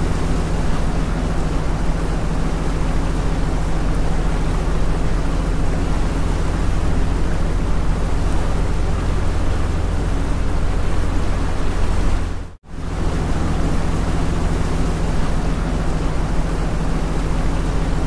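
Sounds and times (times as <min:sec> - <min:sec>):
outboard motor running: 0:00.0 - 0:18.0
wind and water on microphone: 0:00.0 - 0:18.0.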